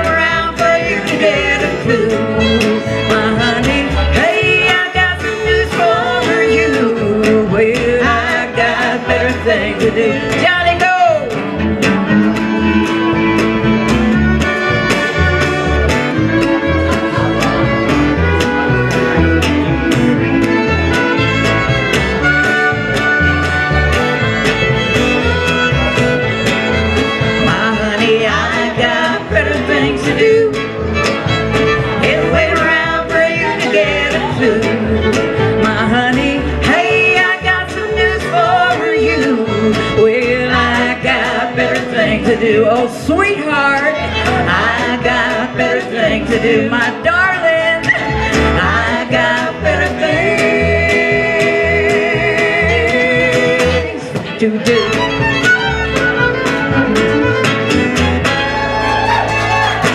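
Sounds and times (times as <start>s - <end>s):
fiddle: 0.0s - 59.9s
strummed acoustic guitar: 0.0s - 59.9s
upright bass: 0.0s - 59.9s.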